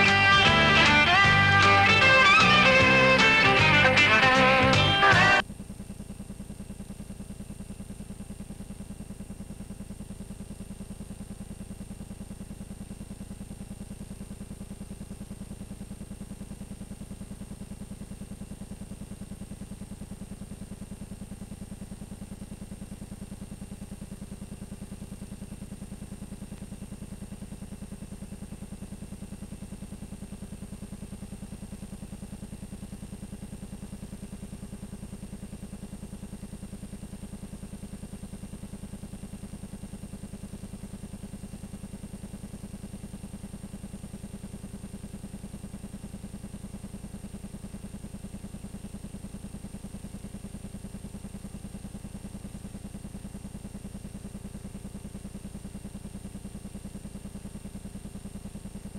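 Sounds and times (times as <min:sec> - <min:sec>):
low electrical hum and buzz: 0:00.0 - 0:58.9.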